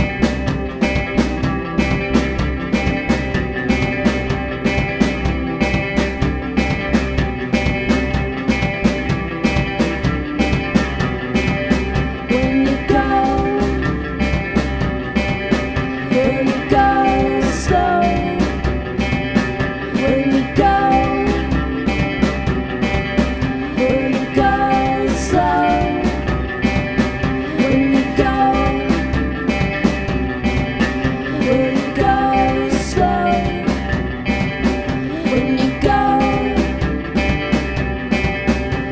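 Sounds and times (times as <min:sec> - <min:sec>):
live band playing: 0:00.0 - 0:38.9
steady drum beat: 0:00.0 - 0:38.9.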